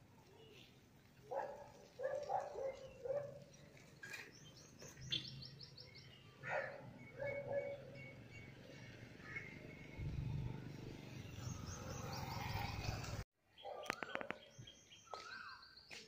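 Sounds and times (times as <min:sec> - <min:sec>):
birds chirping: 0:00.4 - 0:16.0.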